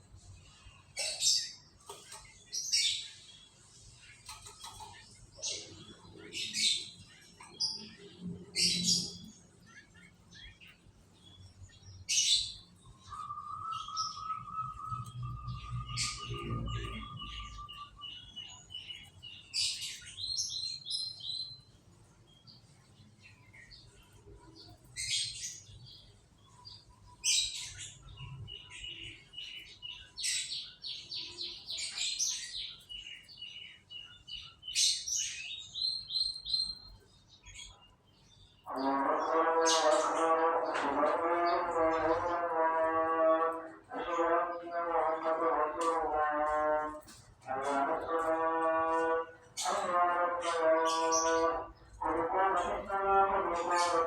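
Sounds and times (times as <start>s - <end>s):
canaries singing trills and chirps: 0.0s - 54.0s.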